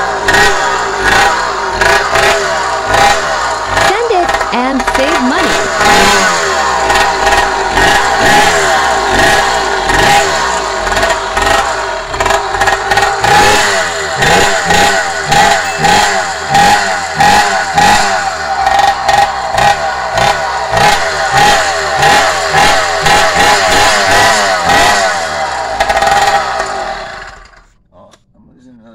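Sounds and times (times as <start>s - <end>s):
two-stroke engine revving: 0.0s - 27.8s.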